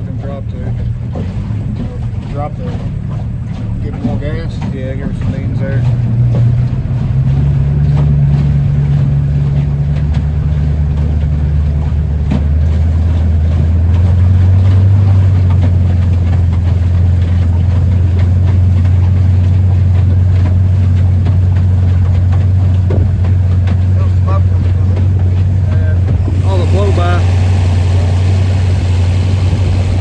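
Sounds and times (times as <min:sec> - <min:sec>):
engine running rough: 0:00.0 - 0:30.0.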